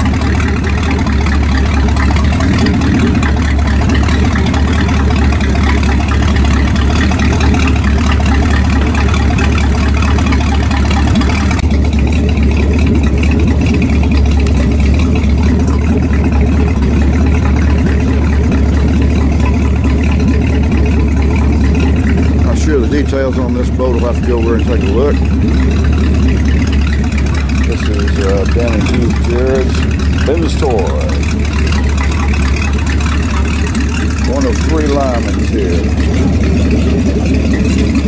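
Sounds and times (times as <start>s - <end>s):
boat engine rumbling: 0.0s - 38.0s.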